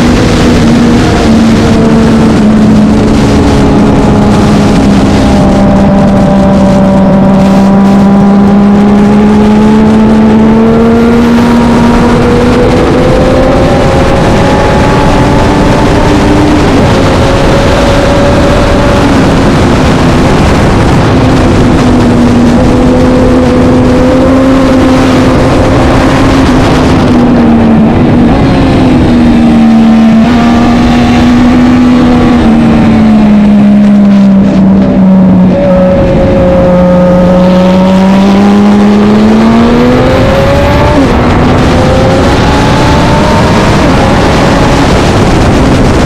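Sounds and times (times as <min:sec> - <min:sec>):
heavy rushing noise: 0:00.0 - 0:46.0
motorcycle engine running hard: 0:00.0 - 0:46.0.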